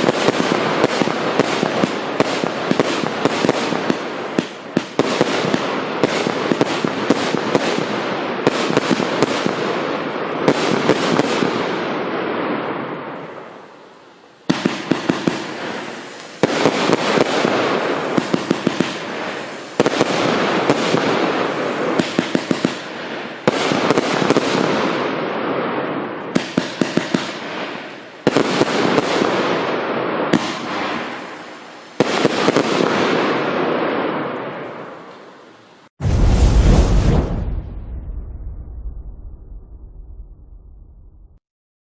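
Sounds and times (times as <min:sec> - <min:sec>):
fireworks reports and crackling: 0:00.0 - 0:41.3.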